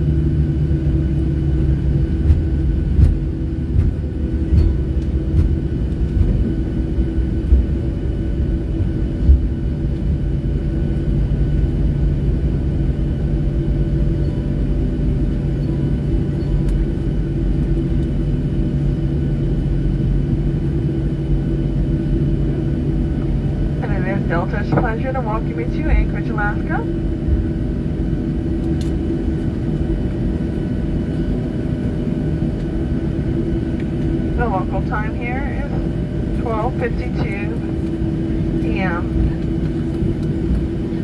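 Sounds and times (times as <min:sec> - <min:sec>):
jet engines and airflow rumble: 0:00.0 - 0:41.0.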